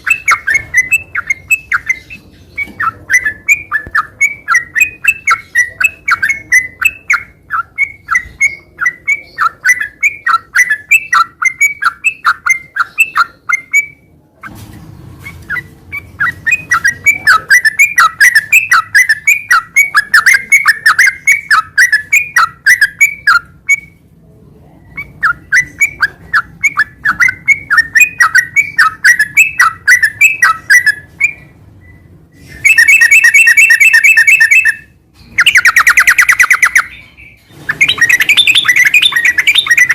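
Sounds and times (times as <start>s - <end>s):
bulbul chirping song: 0.0s - 14.1s, 15.2s - 24.0s, 24.8s - 39.9s.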